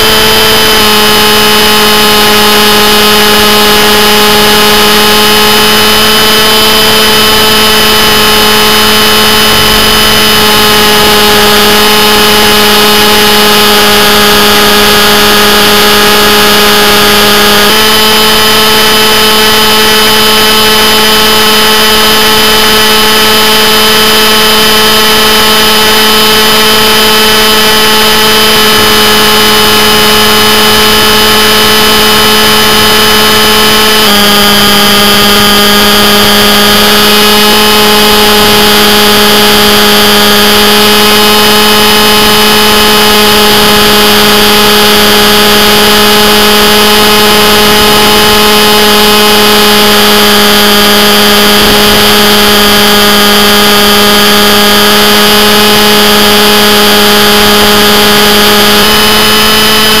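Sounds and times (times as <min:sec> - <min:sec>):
helicopter whine: 0:00.0 - 1:00.0
model helicopter rotor drone: 0:00.0 - 1:00.0.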